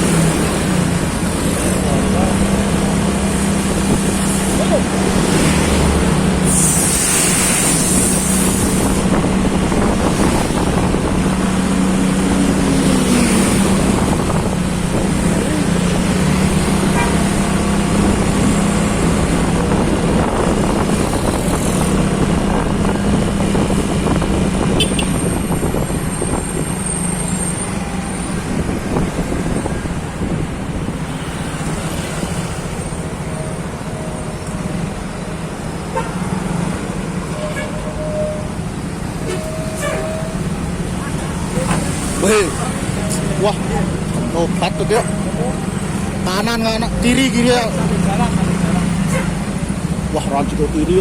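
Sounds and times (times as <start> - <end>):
road and wind noise: 0.0 - 51.0.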